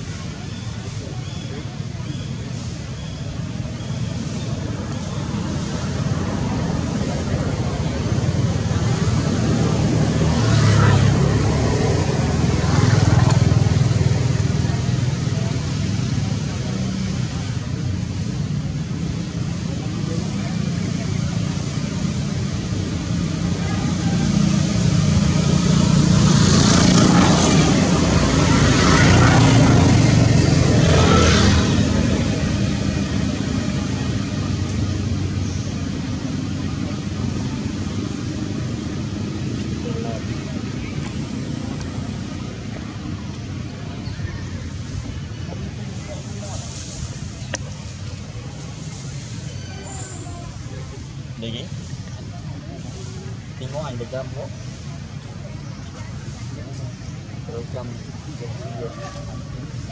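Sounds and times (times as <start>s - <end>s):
road traffic engine rumble: 0.0s - 59.9s.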